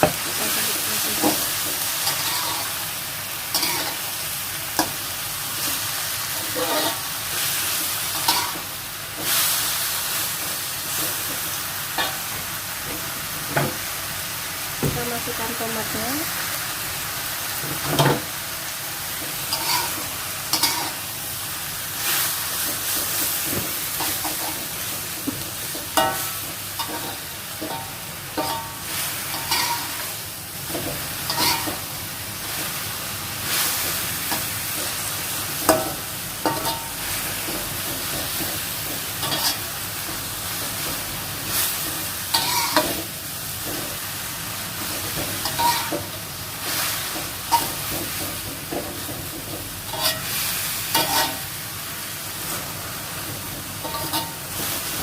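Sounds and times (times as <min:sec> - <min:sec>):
vegetables sizzling in a pan: 0:00.0 - 0:55.0.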